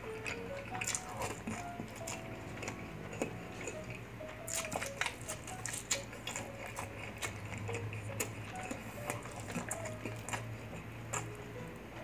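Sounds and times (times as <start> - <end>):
chewing and crunching food: 0.0 - 12.0
faint background music: 0.0 - 12.0.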